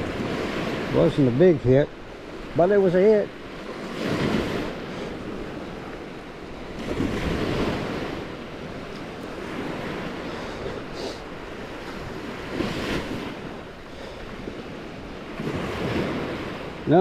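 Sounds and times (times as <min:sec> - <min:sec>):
wind on microphone: 0:00.0 - 0:01.5, 0:03.4 - 0:17.0
surf washing up beach: 0:00.0 - 0:17.0.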